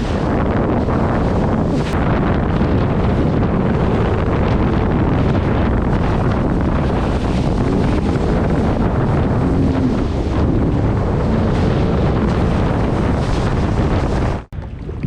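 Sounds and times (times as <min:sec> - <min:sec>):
jet ski engine: 0:00.0 - 0:14.5
water rushing: 0:00.0 - 0:15.0
wind buffeting microphone: 0:00.0 - 0:15.0.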